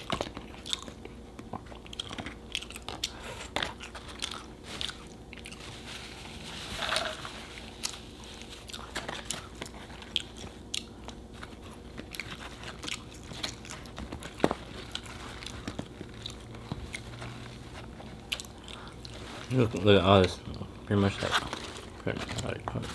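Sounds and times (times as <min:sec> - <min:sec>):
person chewing food: 0:00.0 - 0:19.5.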